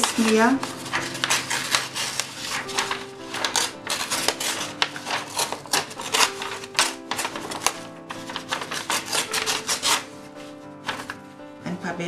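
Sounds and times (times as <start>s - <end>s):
paper tearing: 0.0s - 11.2s
background music: 0.0s - 12.0s.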